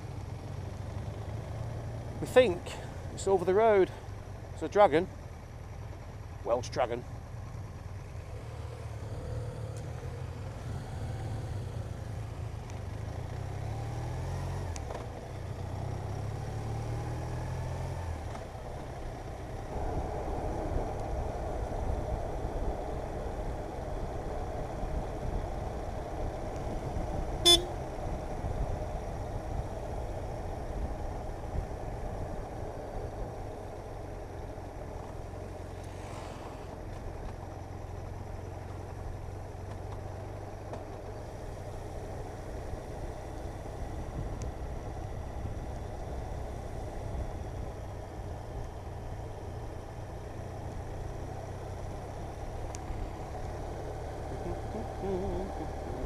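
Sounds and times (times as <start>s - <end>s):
wind and road noise: 0.0s - 56.0s
motorcycle engine shifting gears: 7.5s - 56.0s.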